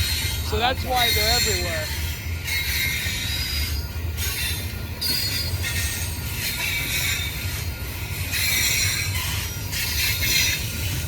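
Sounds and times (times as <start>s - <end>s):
freight train rolling past: 0.0s - 11.0s
steel wheels squealing on rail: 0.0s - 11.0s.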